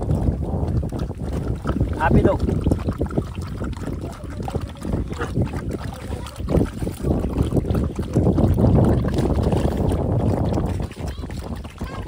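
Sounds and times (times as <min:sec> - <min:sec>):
dogs lapping milk: 0:00.0 - 0:12.0
wind buffeting microphone: 0:00.0 - 0:12.0.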